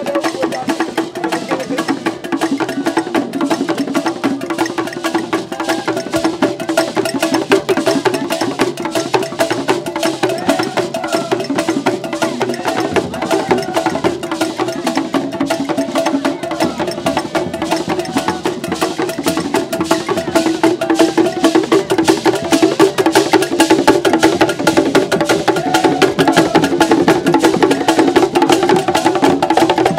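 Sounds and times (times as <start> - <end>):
hand drums beaten fast: 0.0 - 29.9.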